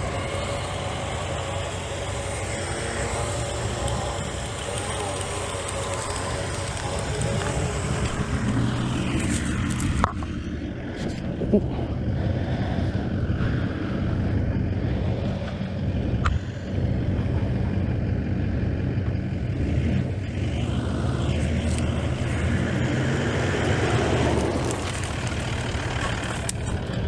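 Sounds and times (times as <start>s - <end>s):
truck engine running: 0.0s - 27.0s
winch running: 0.0s - 27.0s.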